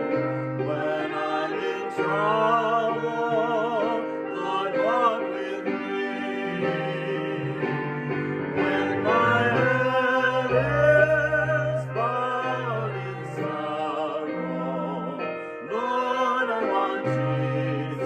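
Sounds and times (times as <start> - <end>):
woman and man singing a hymn: 0.6 - 18.0.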